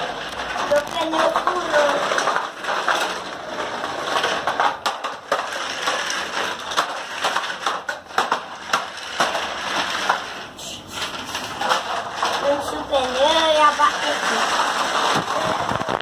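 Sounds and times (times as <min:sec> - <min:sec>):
toy trucks scraping on concrete: 0:00.0 - 0:16.0.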